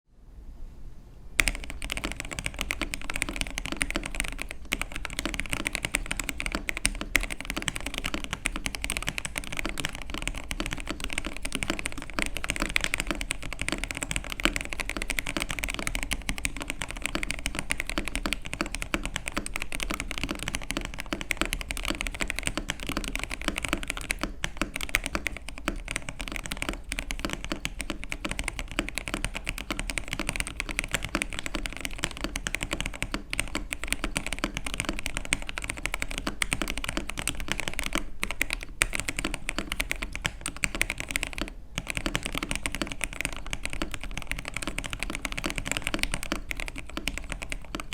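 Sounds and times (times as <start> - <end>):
fast typing on mechanical keyboard: 1.4 - 47.9.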